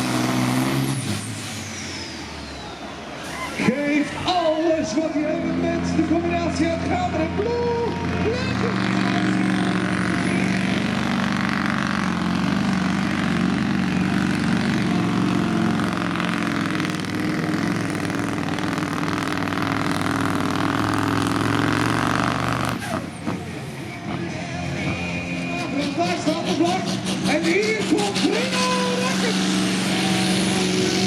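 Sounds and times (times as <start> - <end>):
diesel truck engine under load: 0.0 - 31.0.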